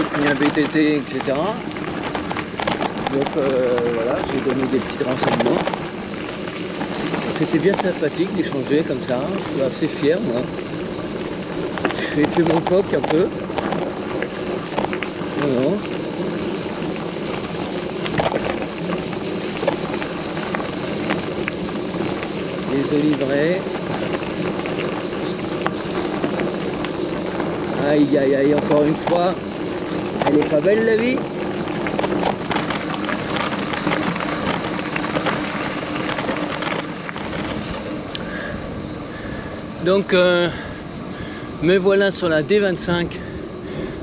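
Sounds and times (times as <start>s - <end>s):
bicycle rolling: 0.0s - 44.0s
wind buffeting microphone: 0.0s - 44.0s.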